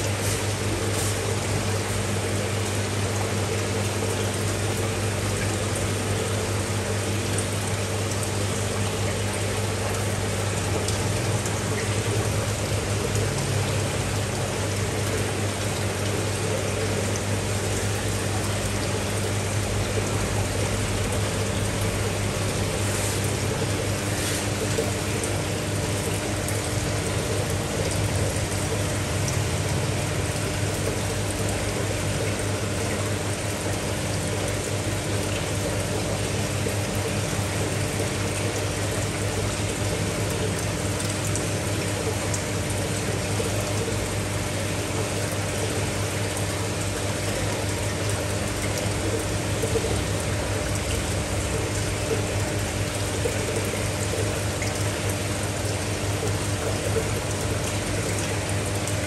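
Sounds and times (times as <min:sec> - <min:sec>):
low pump hum: 0:00.0 - 0:59.0
water splashing and trickling: 0:00.0 - 0:59.0.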